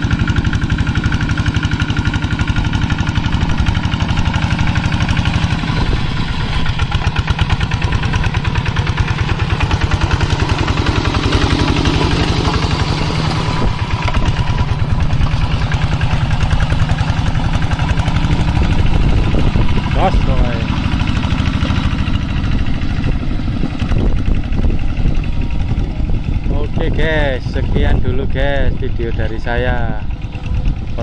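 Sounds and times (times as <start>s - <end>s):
tractor diesel engine chugging: 0.0s - 31.0s.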